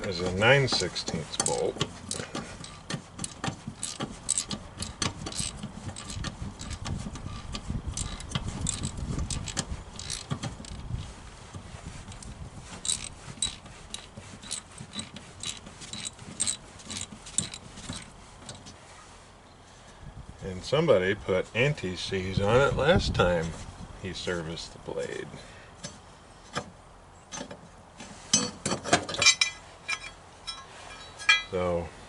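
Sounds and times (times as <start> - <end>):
low rumble of handling: 0.0 - 32.0.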